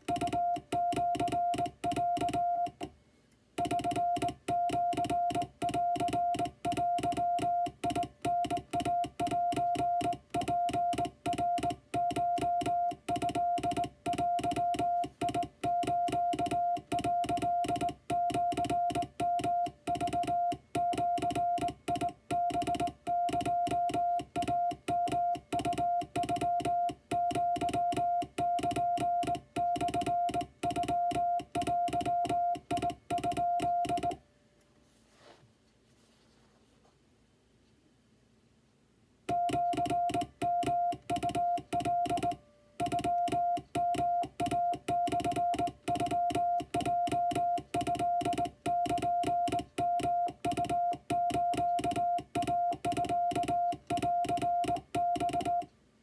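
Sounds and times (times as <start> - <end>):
morse code tone: 0.0 - 2.9, 3.6 - 34.2, 39.3 - 55.7.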